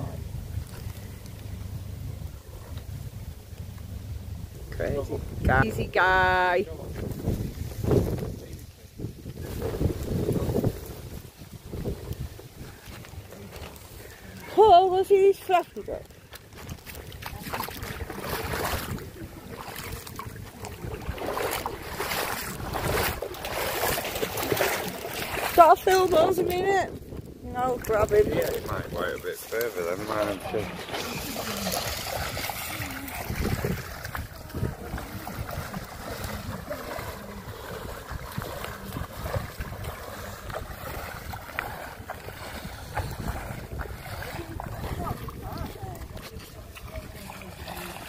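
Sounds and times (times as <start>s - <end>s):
wind buffeting microphone: 0.0s - 48.0s
rushing river water: 5.9s - 48.0s.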